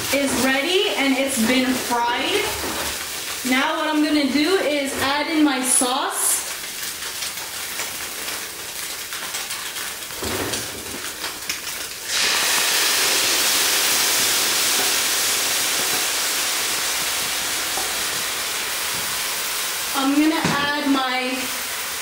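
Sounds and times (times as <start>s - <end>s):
sauce sizzling in hot pan: 0.0s - 22.0s
tofu frying: 0.0s - 22.0s.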